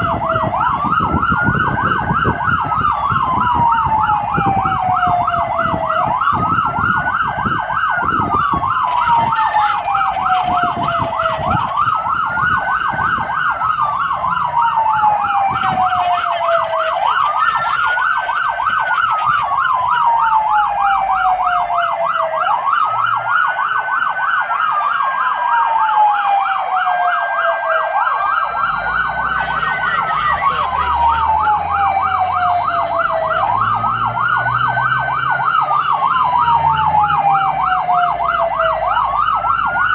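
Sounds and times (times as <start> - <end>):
fire truck siren wail: 0.0 - 39.9
rapid warbling siren tone: 0.0 - 39.9
truck engine and road rumble: 0.0 - 39.9.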